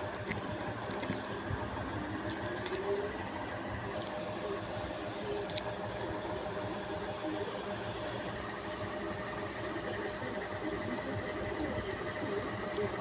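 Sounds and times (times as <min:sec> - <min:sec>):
faint constant tone: 0:00.0 - 0:13.0
machine hum: 0:00.0 - 0:13.0.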